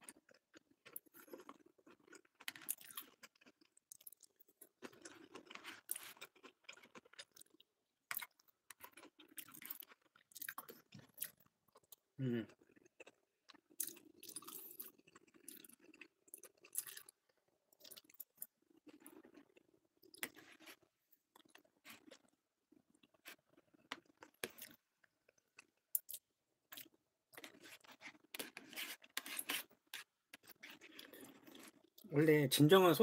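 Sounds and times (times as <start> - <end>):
person chewing food: 0.0 - 32.1.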